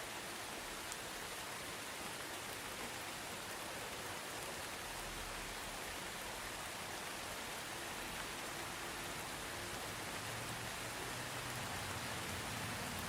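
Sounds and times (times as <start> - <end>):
soft steady rain: 0.0 - 13.0.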